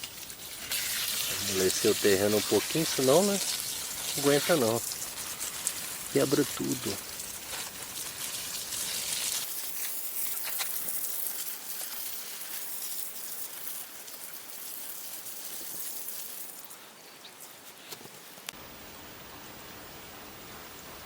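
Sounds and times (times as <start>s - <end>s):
garden hose spraying onto soil: 0.0s - 18.6s.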